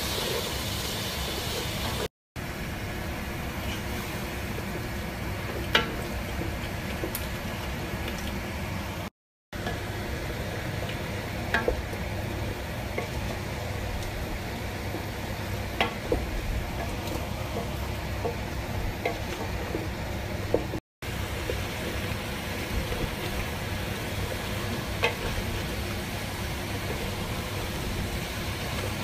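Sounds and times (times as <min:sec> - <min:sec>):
curry sizzling and bubbling: 0:00.0 - 0:29.0.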